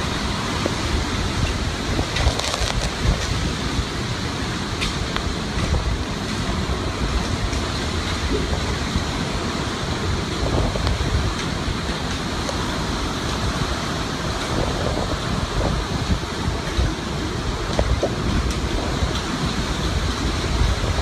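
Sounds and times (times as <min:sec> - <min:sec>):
driving rain: 0:00.0 - 0:21.0
hurricane wind: 0:00.0 - 0:21.0
wind buffeting microphone: 0:00.0 - 0:21.0.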